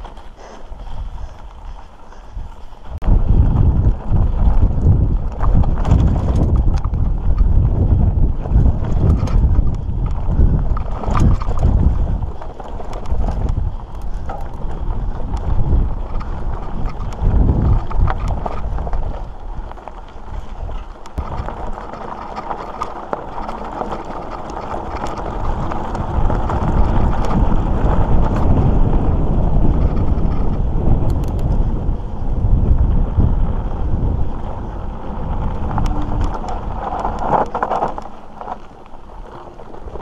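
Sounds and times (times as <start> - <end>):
bike clicks and knocks over bumps: 0.0 - 40.0
bike rumbling on dirt trail: 0.0 - 40.0
wind buffeting microphone: 0.0 - 40.0.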